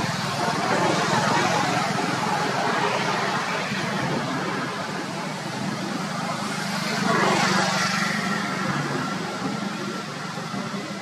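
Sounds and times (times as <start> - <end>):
passing vehicle engine hum: 0.0 - 11.0.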